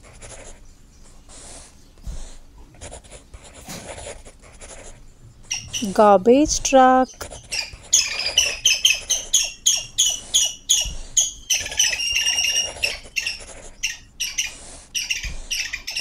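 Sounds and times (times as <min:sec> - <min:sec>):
marker squeaking on paper: 0:00.0 - 0:16.0.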